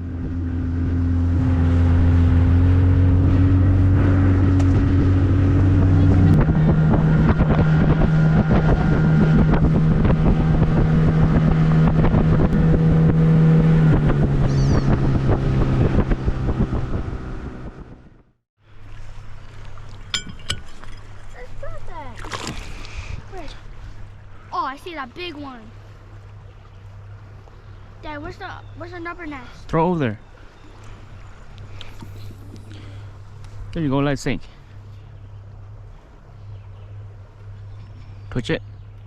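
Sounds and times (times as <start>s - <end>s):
boat motor running: 0.0s - 39.0s.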